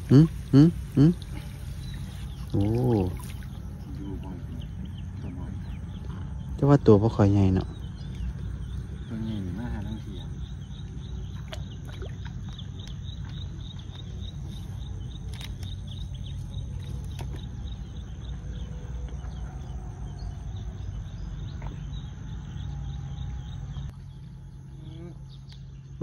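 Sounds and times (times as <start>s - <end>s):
insects chirping: 0.0s - 26.0s
steady low rumble: 0.0s - 26.0s.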